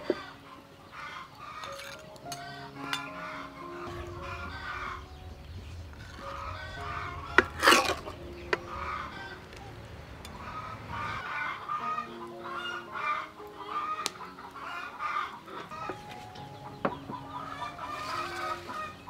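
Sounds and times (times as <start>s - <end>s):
chickens clucking: 0.0s - 19.0s
soft background music: 0.0s - 19.0s.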